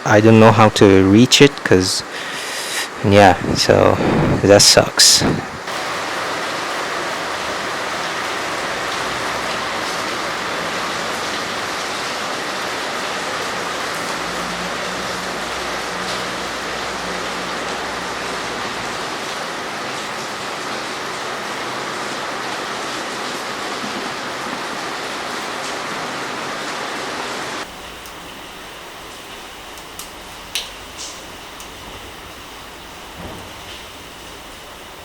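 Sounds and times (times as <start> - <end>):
heavy rain falling: 1.4 - 35.0.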